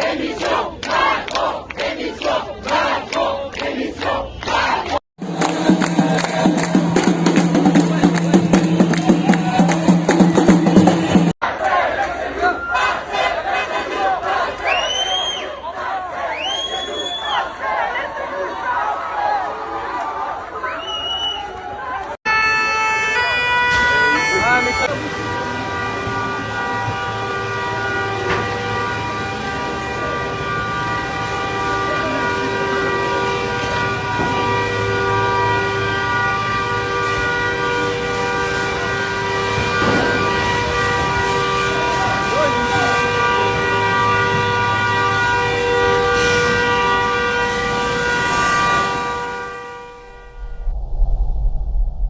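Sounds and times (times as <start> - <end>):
loud continuous horn tone: 0.0 - 18.6, 22.2 - 50.7.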